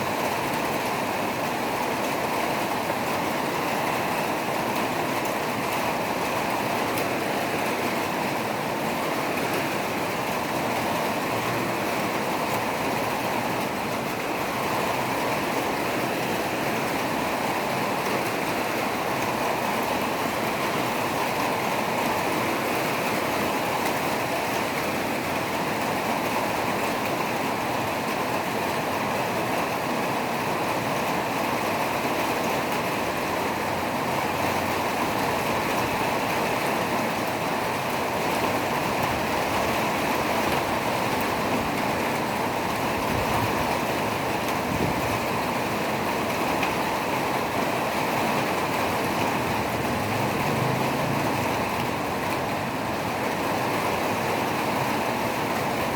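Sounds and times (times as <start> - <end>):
rushing water: 0.0 - 55.9.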